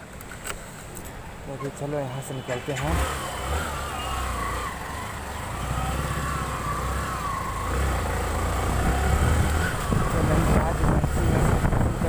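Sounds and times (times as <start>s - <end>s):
wind and motorcycle engine rumble: 0.0s - 12.0s.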